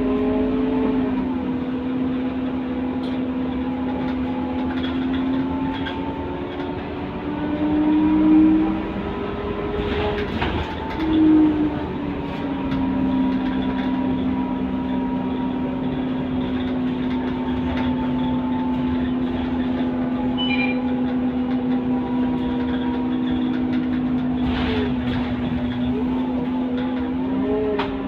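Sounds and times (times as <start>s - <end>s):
bus engine hum: 0.0s - 28.0s
road noise: 0.0s - 28.0s.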